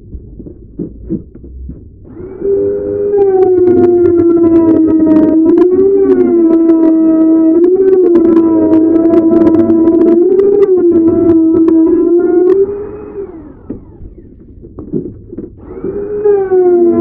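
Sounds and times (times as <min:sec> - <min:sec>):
electric router cutting wood: 0:02.1 - 0:14.3, 0:15.6 - 0:17.0.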